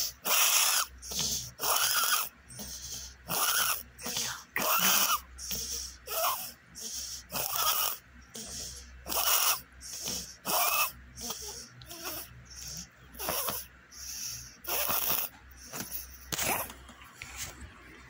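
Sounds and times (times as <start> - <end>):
small dog wheezing: 0.0 - 16.7.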